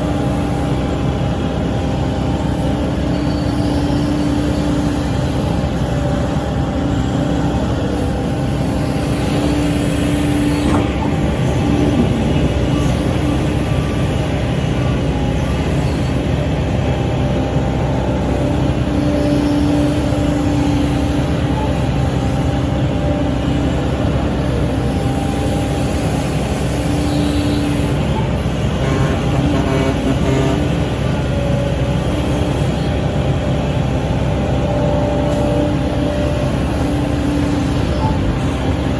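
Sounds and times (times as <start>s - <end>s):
excavator diesel engine running: 0.0s - 38.9s
hydraulics hum: 0.0s - 38.9s.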